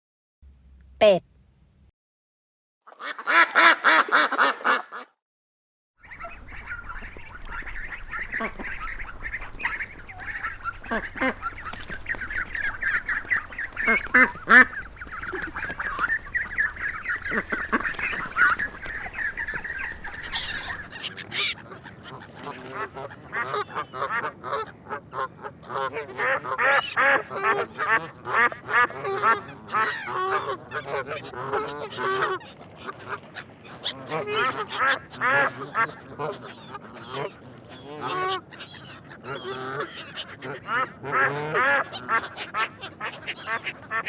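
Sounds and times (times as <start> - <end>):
ducks quacking: 2.9 - 5.1, 6.0 - 44.0.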